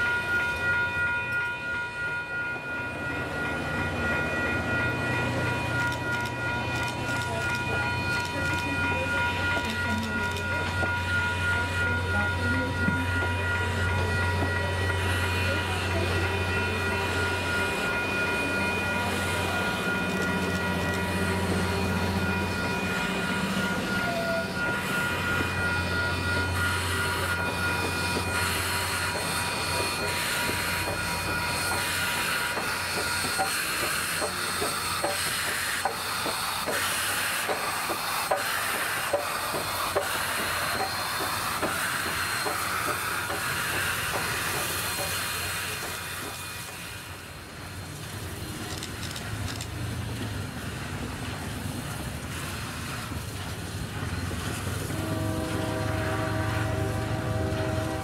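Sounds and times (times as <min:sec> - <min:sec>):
train wheel squeal: 0:00.0 - 0:58.0
steam hissing: 0:10.1 - 0:58.0.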